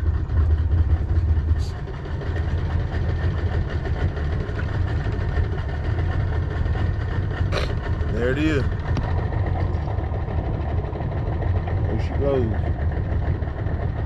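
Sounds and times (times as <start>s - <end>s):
outboard motor idling: 0.0s - 14.0s.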